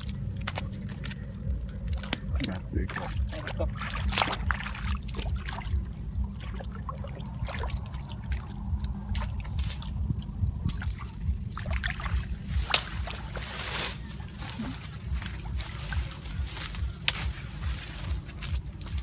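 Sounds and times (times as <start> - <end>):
steady low rumble: 0.0 - 19.0
water splashing and trickling: 0.0 - 19.0.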